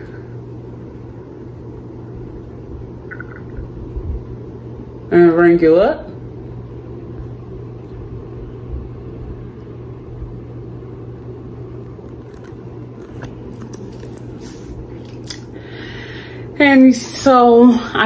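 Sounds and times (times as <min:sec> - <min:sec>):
low background hum and rumble: 0:00.0 - 0:18.0.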